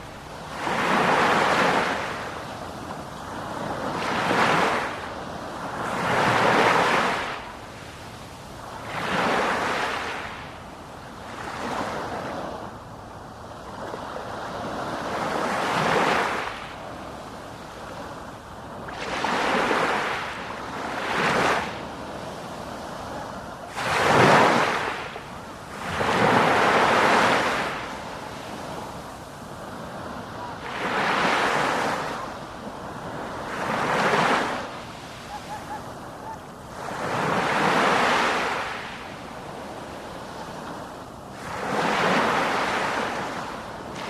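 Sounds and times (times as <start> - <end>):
sea waves breaking on shore: 0.0 - 44.0.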